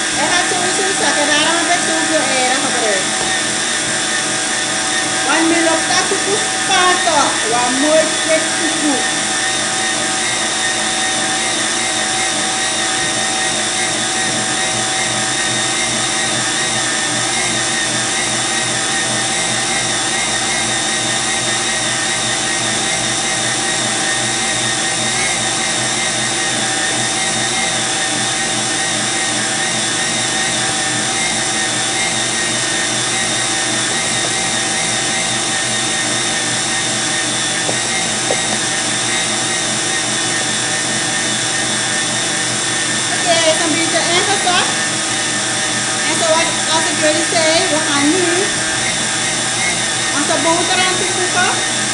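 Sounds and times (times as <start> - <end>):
stand mixer motor whirring: 0.0 - 51.9.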